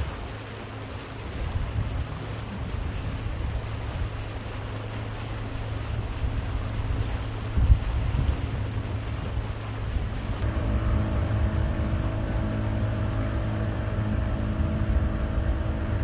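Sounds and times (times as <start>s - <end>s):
boat engine humming: 0.0s - 16.0s
wind buffeting microphone: 0.0s - 16.0s.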